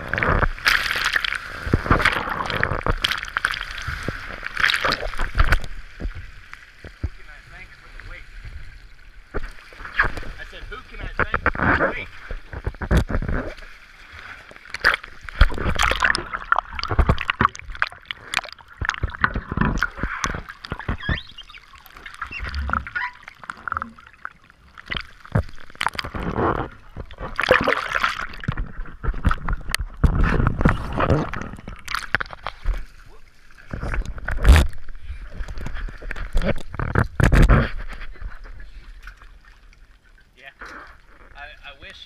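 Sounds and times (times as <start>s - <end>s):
water sloshing and gurgling: 0.0s - 42.0s
water splashes: 0.0s - 42.0s.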